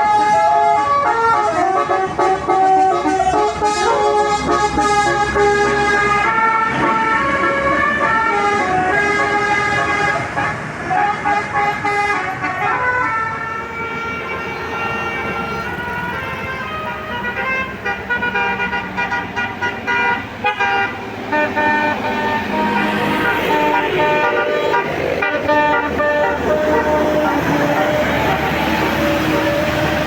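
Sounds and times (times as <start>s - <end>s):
bus horn playing a tune: 0.0s - 30.0s
vehicle engine noise: 0.0s - 30.0s.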